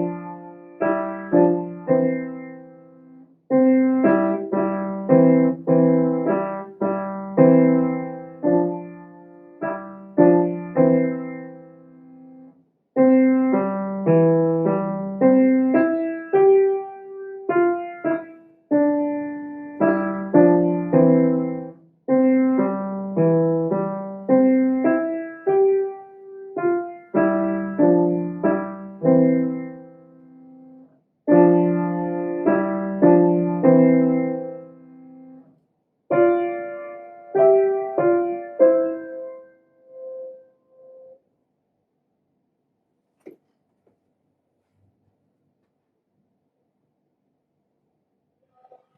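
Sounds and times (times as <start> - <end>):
slow solo piano piece: 0.0 - 35.5, 36.1 - 41.2.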